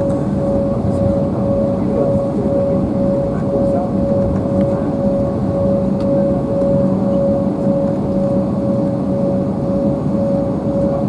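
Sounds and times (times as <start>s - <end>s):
jet engines roaring in cabin: 0.0s - 11.0s.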